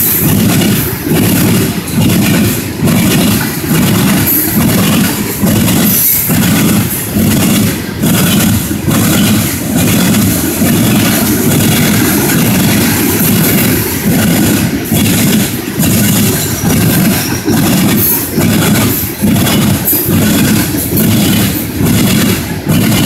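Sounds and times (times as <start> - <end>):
train wheels clacking over crossing: 0.0 - 23.0
wheel and rail noise: 0.0 - 23.0.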